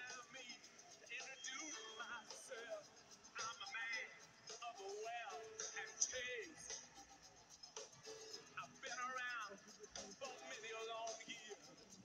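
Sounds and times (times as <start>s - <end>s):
man singing: 0.0s - 6.8s, 8.6s - 11.7s
faint music: 0.0s - 12.0s.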